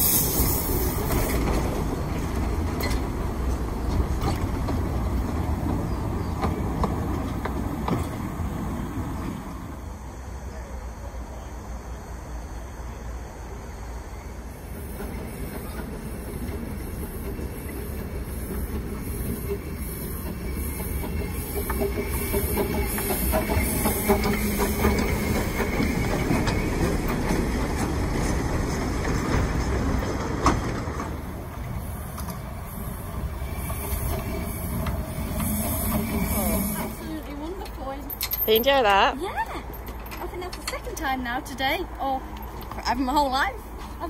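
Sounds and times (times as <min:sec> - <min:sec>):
small train rumbling and rattling: 0:00.0 - 0:44.0.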